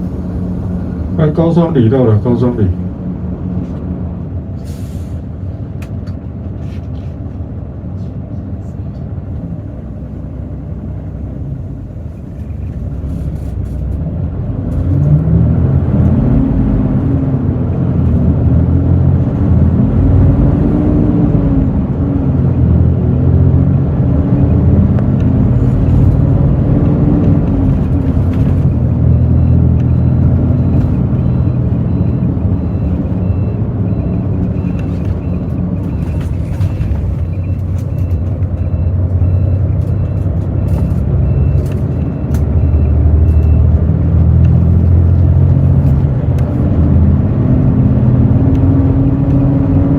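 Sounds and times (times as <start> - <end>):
diesel bus engine revving: 0.0 - 6.5, 9.1 - 49.9.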